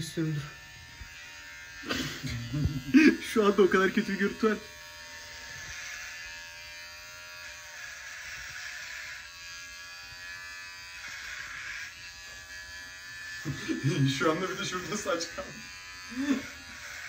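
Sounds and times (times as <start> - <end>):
electric hair clipper buzzing: 0.0 - 17.0.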